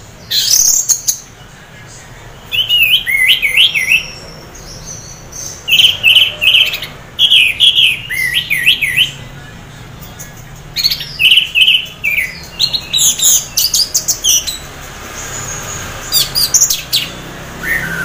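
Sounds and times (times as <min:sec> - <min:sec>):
thrush singing whistled notes: 0:00.0 - 0:18.0.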